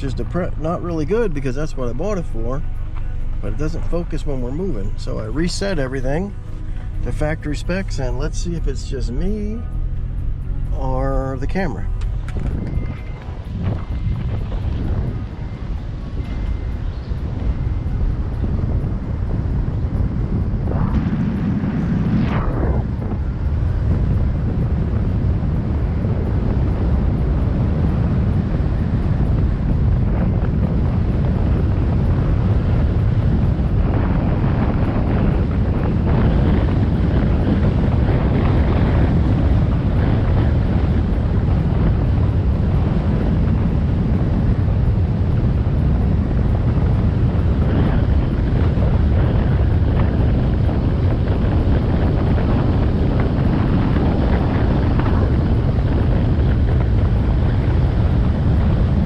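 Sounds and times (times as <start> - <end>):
low travel rumble: 0.0 - 59.0
wind buffeting microphone: 0.0 - 59.0.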